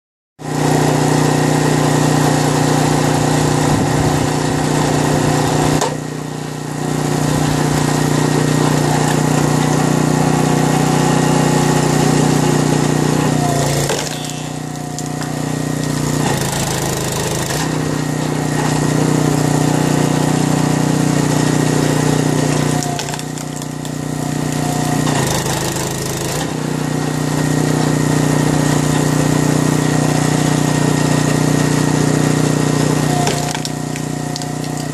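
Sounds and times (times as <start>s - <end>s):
petrol engine running: 0.4s - 34.9s.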